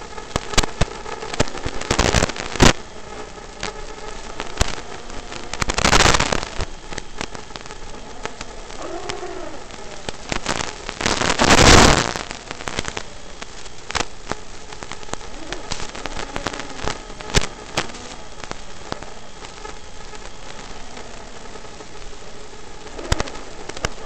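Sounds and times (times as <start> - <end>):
radio static and hiss: 0.0 - 24.0.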